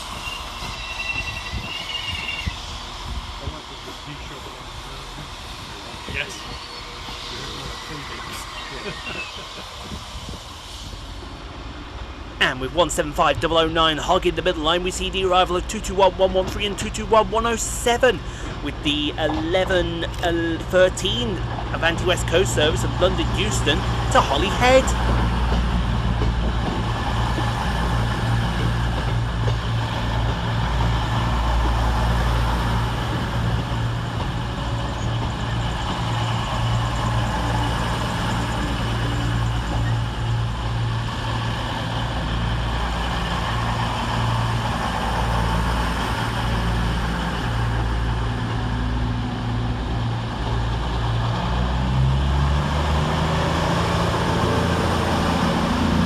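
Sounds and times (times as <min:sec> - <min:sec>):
train engines idling: 0:00.0 - 0:56.0.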